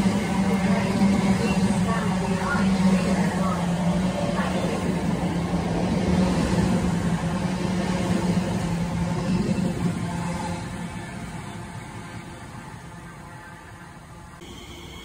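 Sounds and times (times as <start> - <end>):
wheels rumbling on rails: 0.0 - 14.4
electric train hum: 0.0 - 15.0.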